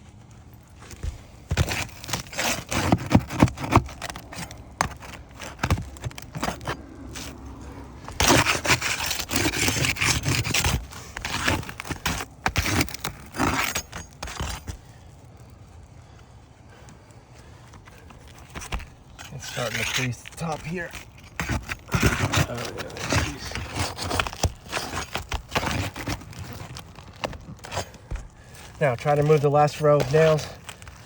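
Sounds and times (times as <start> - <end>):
roof shingles scraping and cracking: 0.0 - 31.0.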